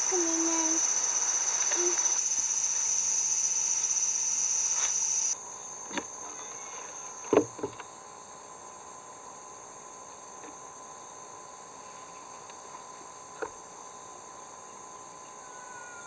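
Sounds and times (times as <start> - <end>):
insects buzzing: 0.0 - 13.2.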